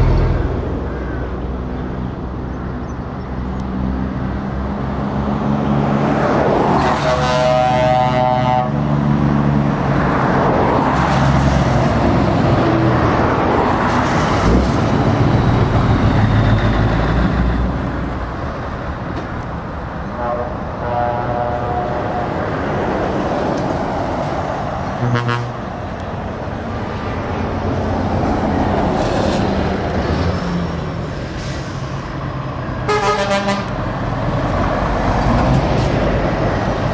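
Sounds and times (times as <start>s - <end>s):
heavy trucks driving past: 0.0s - 36.9s.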